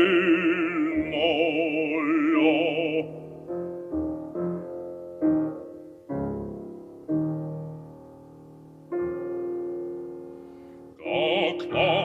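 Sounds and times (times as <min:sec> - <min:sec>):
heavy piano chords: 0:00.0 - 0:12.0.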